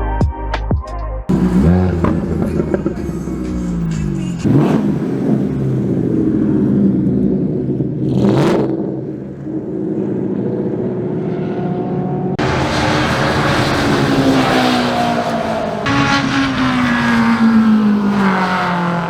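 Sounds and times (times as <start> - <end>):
car engines revving: 1.3 - 19.0
engine easing off: 1.3 - 19.0.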